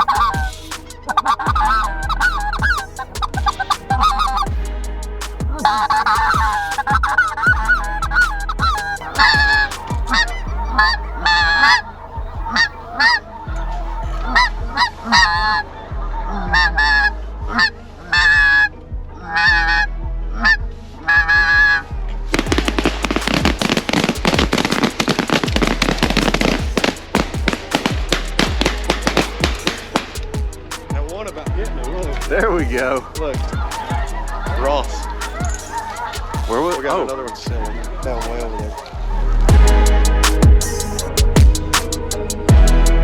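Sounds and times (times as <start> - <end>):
geese honking: 0.0 - 43.0.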